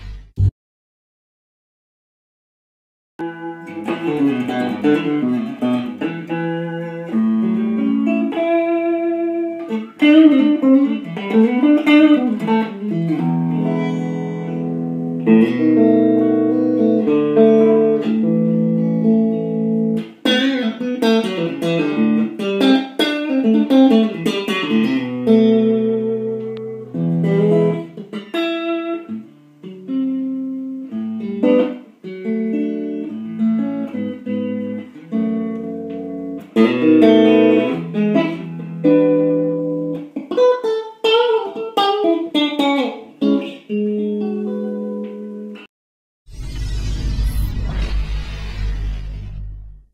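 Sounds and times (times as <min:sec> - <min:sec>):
electric guitar playing: 0:03.2 - 0:45.7.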